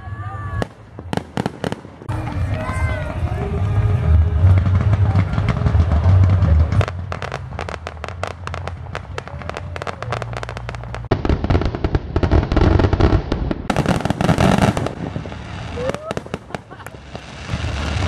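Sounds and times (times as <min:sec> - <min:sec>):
fireworks crackling pops: 0:00.5 - 0:18.0.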